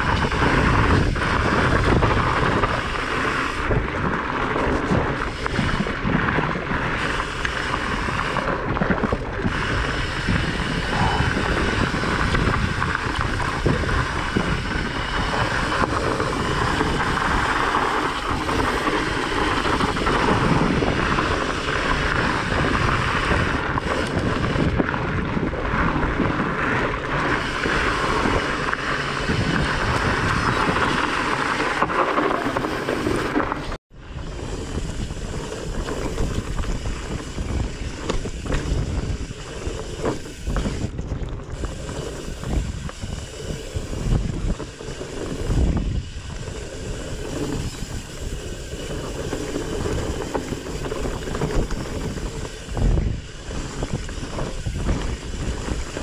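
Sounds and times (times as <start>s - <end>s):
bike rattling over bumps: 0.0s - 56.0s
bike tyres rolling on gravel: 0.0s - 56.0s
wind on microphone: 0.0s - 56.0s.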